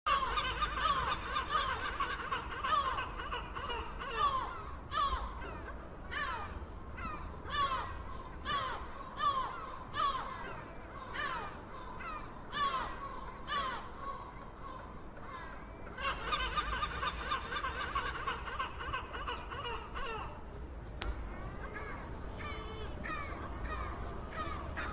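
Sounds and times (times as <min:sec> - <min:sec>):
seagulls calling: 0:00.1 - 0:24.9.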